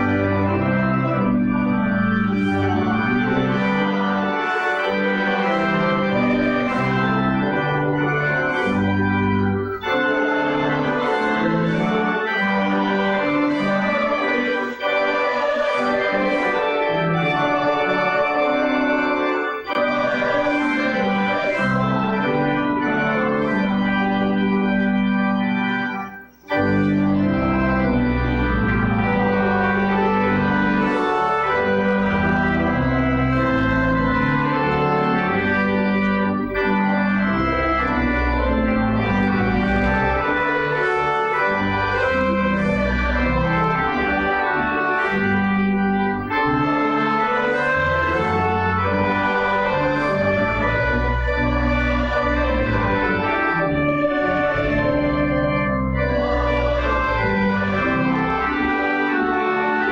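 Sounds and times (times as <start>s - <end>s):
organ playing sustained chords: 0.0s - 59.9s.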